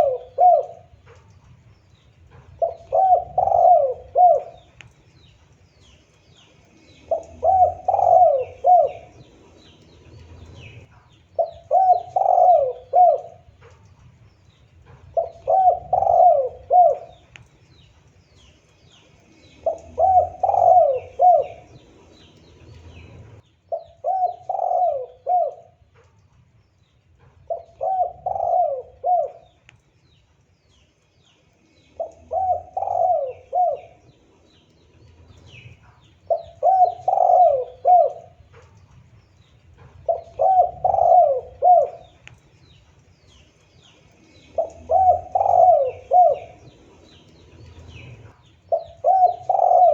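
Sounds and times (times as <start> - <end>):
dove cooing: 0.0 - 5.3, 6.6 - 14.0, 14.8 - 18.5, 19.2 - 25.9, 27.5 - 29.6, 32.0 - 49.9
small birds chirping: 0.0 - 49.9.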